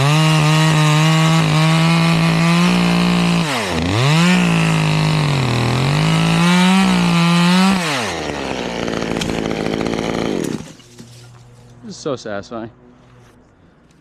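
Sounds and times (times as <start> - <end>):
chainsaw cutting wood: 0.0 - 11.4.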